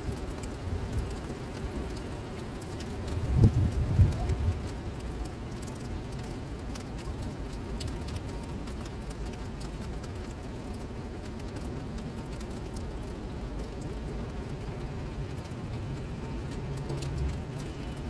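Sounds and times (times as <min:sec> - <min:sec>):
rain falling into puddle: 0:00.0 - 0:18.0.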